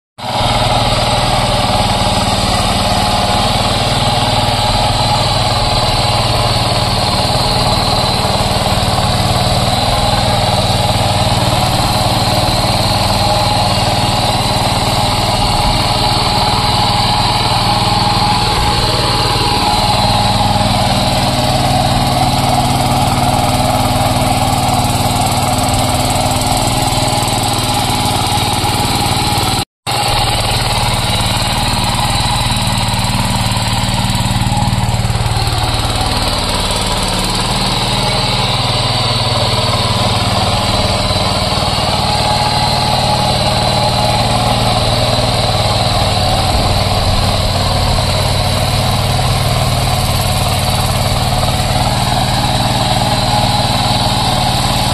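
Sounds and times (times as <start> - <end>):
small tiller engine running: 0.2 - 54.9.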